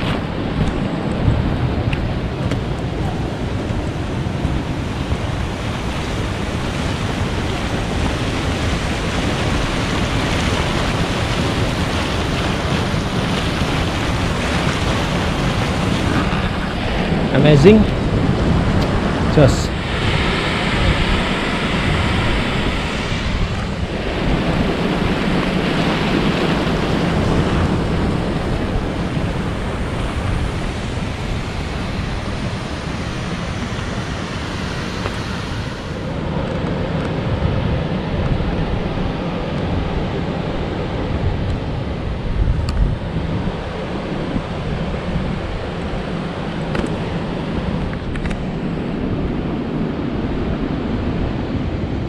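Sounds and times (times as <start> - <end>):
steady rushing noise: 0.0 - 52.0
wind buffeting microphone: 0.0 - 52.0.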